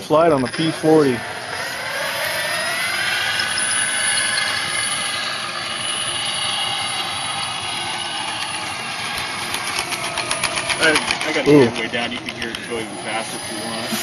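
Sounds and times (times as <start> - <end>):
electric model plane motor whine: 0.4 - 14.0.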